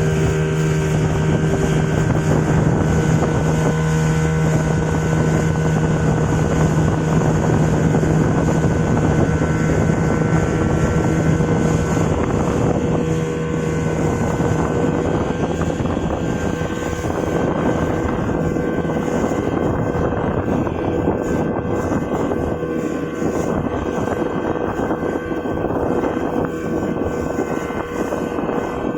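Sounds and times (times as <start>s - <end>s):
speedboat engine running: 0.0s - 28.9s
wind buffeting microphone: 0.0s - 28.9s.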